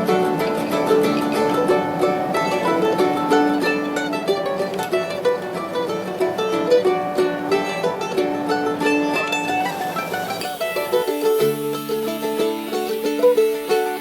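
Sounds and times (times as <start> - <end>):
plucked string music: 0.0 - 14.0.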